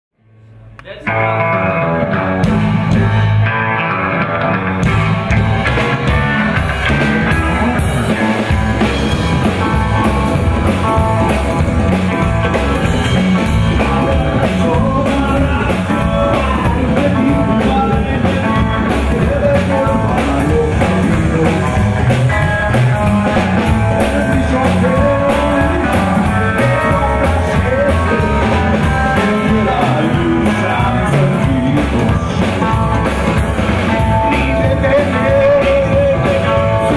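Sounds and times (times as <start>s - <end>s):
rockabilly band playing: 0.7s - 36.9s.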